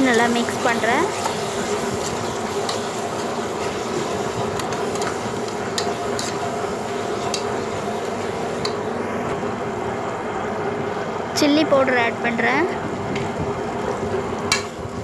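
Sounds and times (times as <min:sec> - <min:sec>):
masala sizzling in oil: 0:00.0 - 0:11.4, 0:12.0 - 0:15.0.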